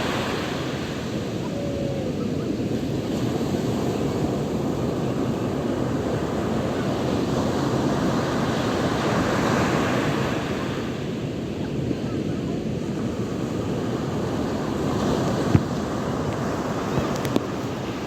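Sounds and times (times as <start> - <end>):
waves breaking on shore: 0.0 - 18.0.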